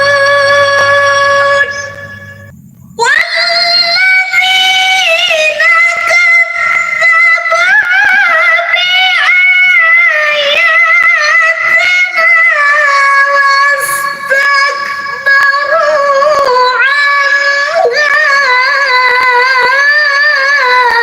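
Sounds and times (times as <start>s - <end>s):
woman chanting recitation: 0.0s - 21.0s.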